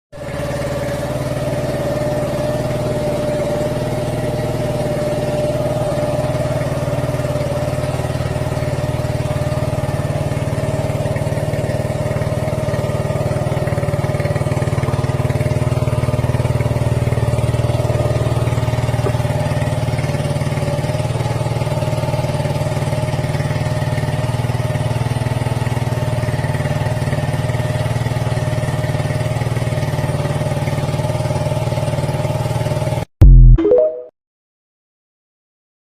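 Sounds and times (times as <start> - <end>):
motorcycle engine idling: 0.2 - 33.0.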